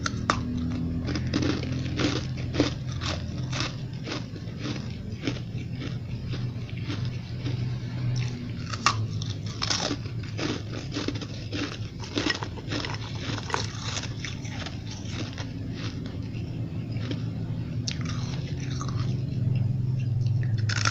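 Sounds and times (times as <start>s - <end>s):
ice being chewed and crunched: 0.0s - 20.9s
steady low hum: 0.0s - 20.9s.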